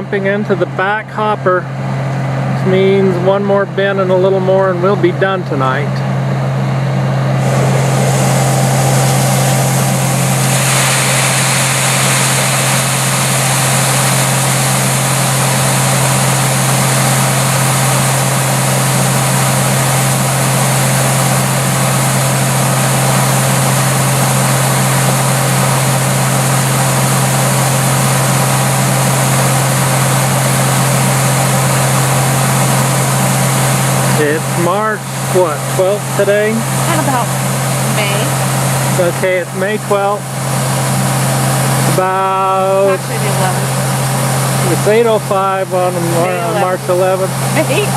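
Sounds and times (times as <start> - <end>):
broad rushing noise: 0.0 - 47.9
heavy engine humming: 0.0 - 47.9.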